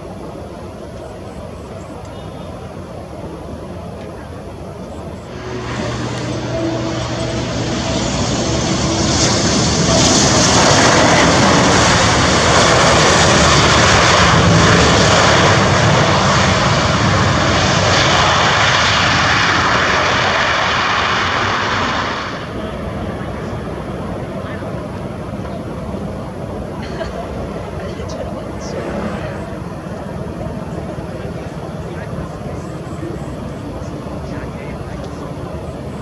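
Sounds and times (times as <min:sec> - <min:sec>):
jet engines rushing on landing: 0:00.0 - 0:36.0.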